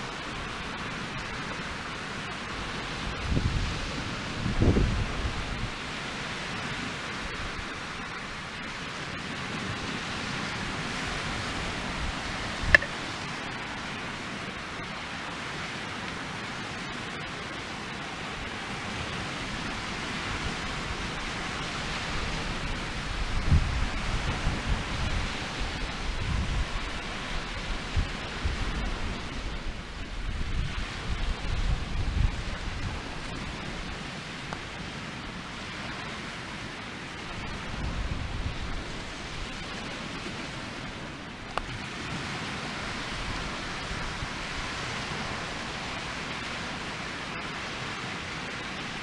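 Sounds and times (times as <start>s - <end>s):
wind buffeting microphone: 0.0s - 14.7s, 18.3s - 36.4s, 37.1s - 48.2s.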